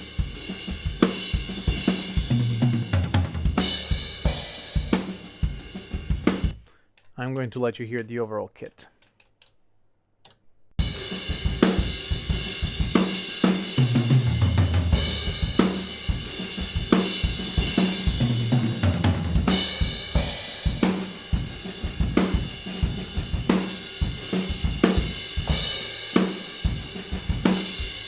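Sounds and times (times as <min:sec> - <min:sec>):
acoustic drum kit groove: 0:00.0 - 0:06.8, 0:10.8 - 0:28.0.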